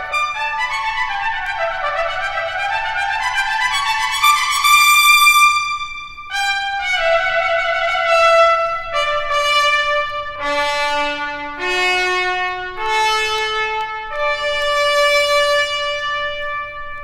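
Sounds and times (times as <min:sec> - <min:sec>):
solo trumpet playing held notes: 0:00.0 - 0:17.0.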